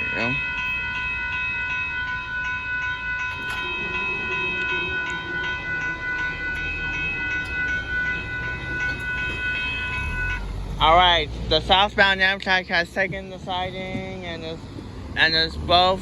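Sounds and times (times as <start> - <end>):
crossing bell ringing: 0.0 - 16.0
low train rumble: 0.0 - 16.0.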